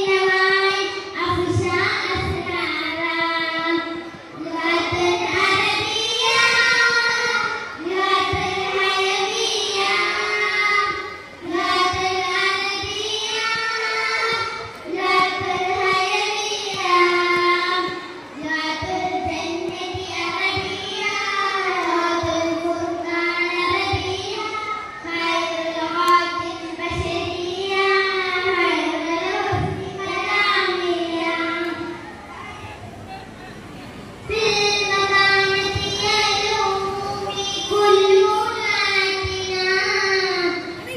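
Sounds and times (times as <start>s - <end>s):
child singing: 0.0s - 32.6s, 34.3s - 40.9s.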